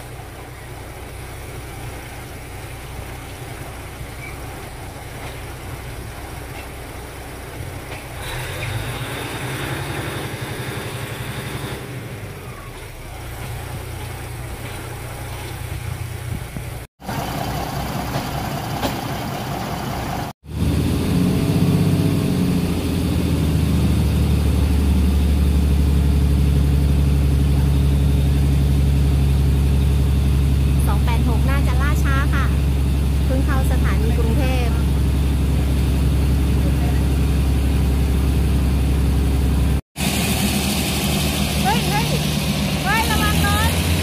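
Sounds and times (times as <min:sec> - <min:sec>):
diesel engine idling: 0:00.0 - 0:44.0
passenger train rumbling past: 0:00.0 - 0:44.0.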